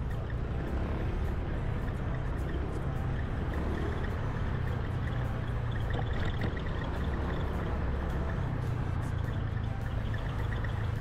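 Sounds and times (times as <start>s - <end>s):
scooter engine and road noise: 0.0s - 11.0s.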